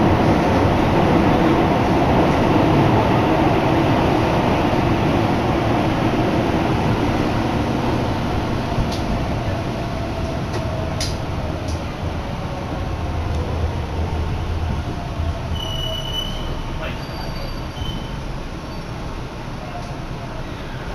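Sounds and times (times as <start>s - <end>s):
train running rumble: 0.0s - 20.9s.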